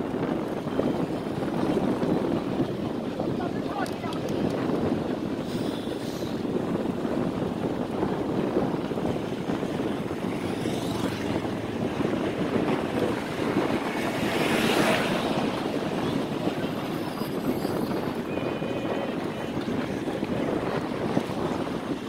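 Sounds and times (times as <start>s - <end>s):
surf washing: 0.0s - 22.0s
wind rushing over microphone: 0.0s - 22.0s.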